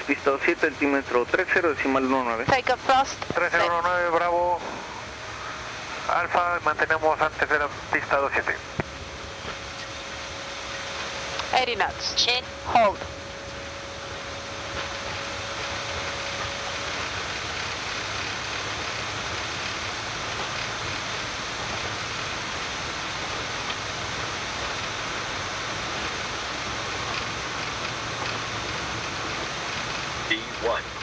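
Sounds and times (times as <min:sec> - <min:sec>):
jet engine and airflow rush: 0:00.0 - 0:31.0.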